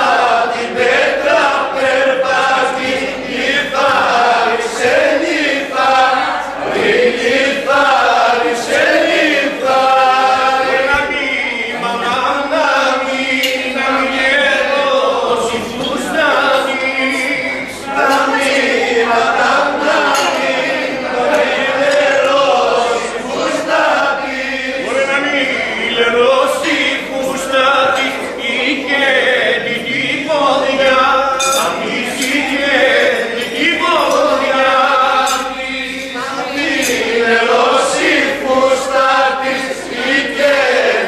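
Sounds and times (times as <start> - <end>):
group of people singing unaccompanied: 0.0 - 41.0.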